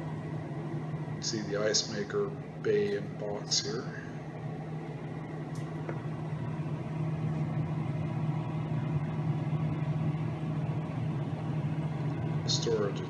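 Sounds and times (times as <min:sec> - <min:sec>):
refrigerator humming: 0:00.0 - 0:13.0.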